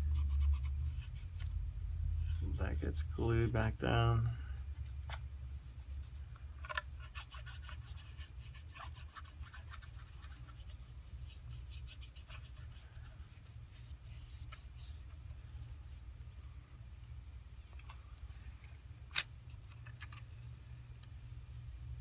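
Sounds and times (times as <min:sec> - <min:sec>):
scratching on smartphone parts: 0:00.0 - 0:01.6, 0:02.2 - 0:04.0, 0:04.6 - 0:22.0
steady low hum: 0:00.0 - 0:22.0.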